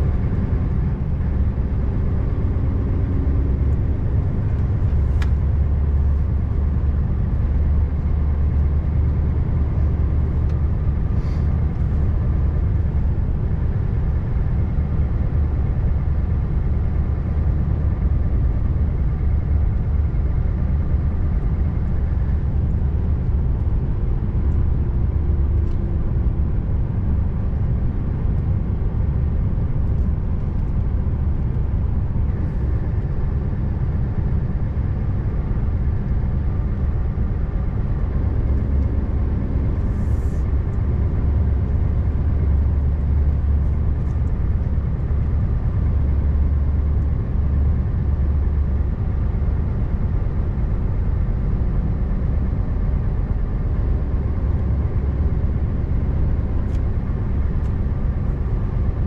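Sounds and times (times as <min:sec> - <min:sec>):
road rumble: 0:00.0 - 0:59.0
truck diesel engine running: 0:00.0 - 0:59.0.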